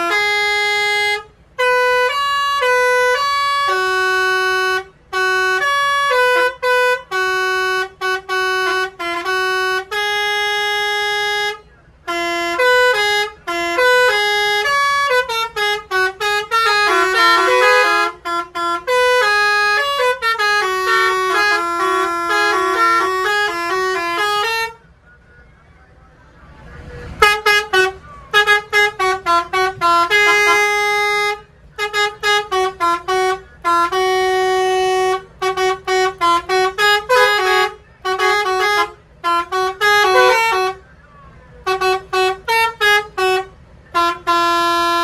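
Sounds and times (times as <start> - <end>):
multi-tone bus air horns: 0.0 - 25.4, 26.4 - 45.0.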